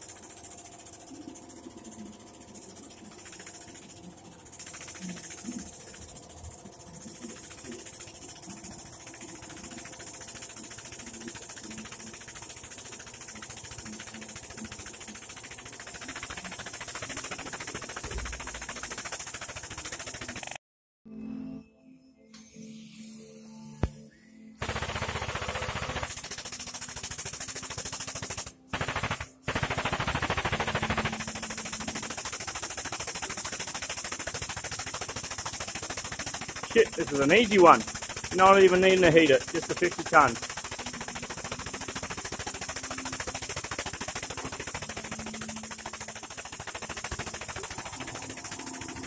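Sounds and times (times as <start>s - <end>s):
hydraulic pump rattling: 0.0s - 20.6s, 24.6s - 49.0s.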